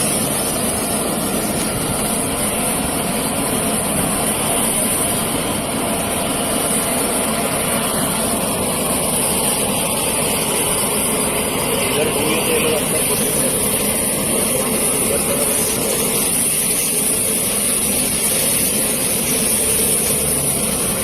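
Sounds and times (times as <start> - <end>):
heavy engines running: 0.0 - 21.0
high-pitched whining hiss: 0.0 - 21.0.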